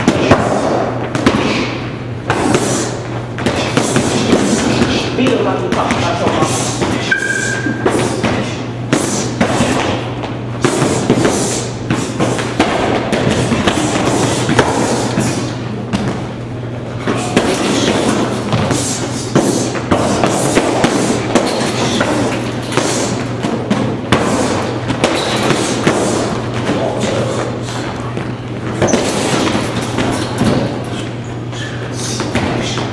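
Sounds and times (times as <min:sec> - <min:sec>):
punches thudding on heavy bags: 0:00.0 - 0:07.1, 0:07.8 - 0:16.3, 0:17.0 - 0:27.5, 0:28.2 - 0:31.0, 0:32.1 - 0:32.9.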